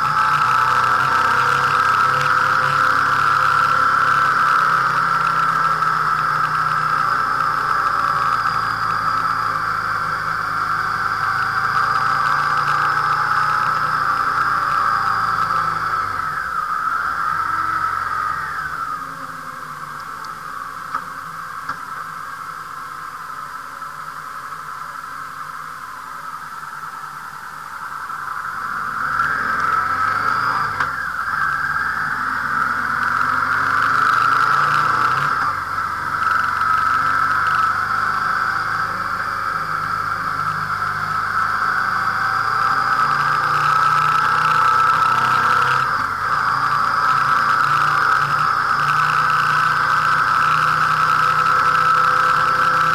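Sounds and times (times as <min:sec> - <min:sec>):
motorcycle engine running: 0:00.0 - 0:22.6, 0:27.6 - 0:52.9
wind and road noise: 0:00.0 - 0:52.9.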